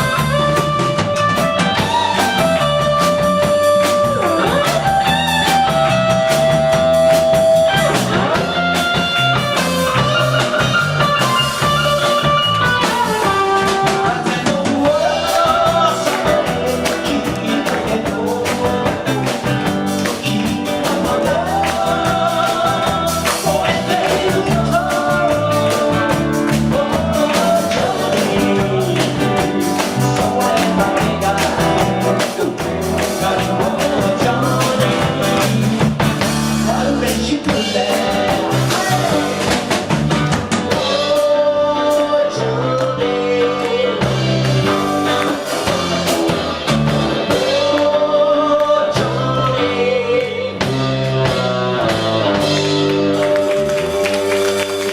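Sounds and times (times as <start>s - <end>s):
person singing: 0.0s - 39.8s, 40.7s - 54.9s
rock band playing live: 0.0s - 54.9s.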